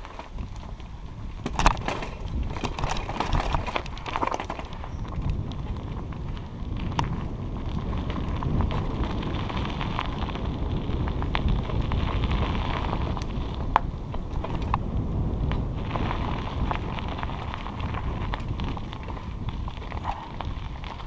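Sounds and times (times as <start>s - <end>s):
bicycle tyres on dirt trail: 0.0s - 21.0s
small clicks and crackles: 0.0s - 21.0s
wind buffeting microphone: 0.0s - 21.0s.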